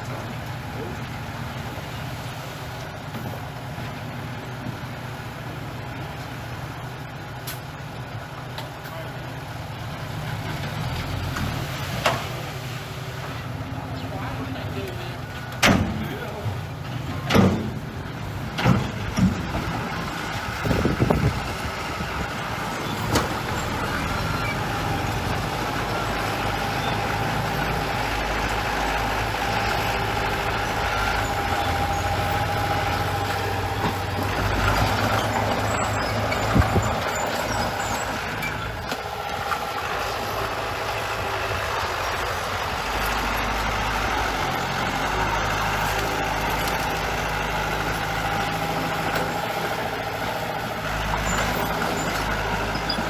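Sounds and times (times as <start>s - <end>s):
diesel machinery running: 0.0s - 53.0s.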